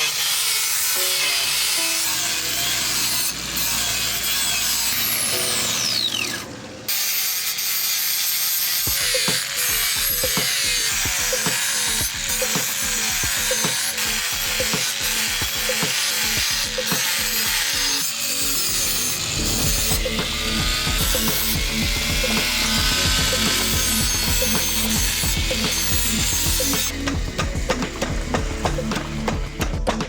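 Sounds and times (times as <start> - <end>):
knife blade being filed: 0.0 - 5.7, 6.9 - 27.4.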